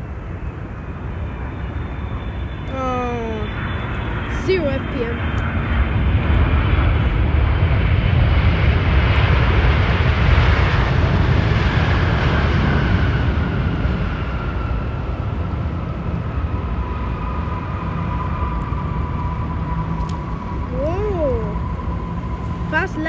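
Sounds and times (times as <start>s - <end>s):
jet engine whine: 0.0s - 23.0s
jet engines reverse thrust: 0.0s - 23.0s.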